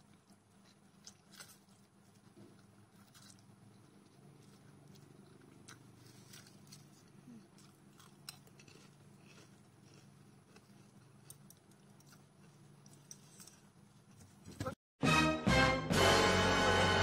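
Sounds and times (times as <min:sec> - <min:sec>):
chewing crunchy food: 0:00.0 - 0:14.4.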